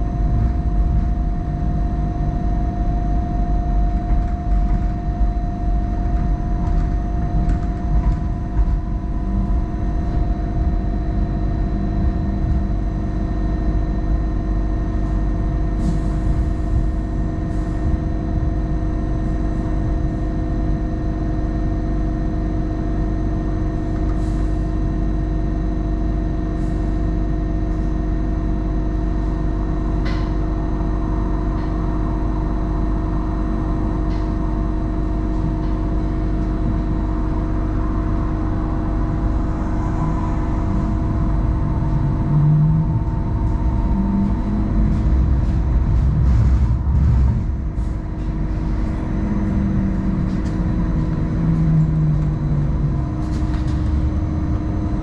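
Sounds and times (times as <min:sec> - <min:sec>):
steady tonal hum: 0:00.0 - 0:55.0
wheels rumbling on rail: 0:00.0 - 0:55.0.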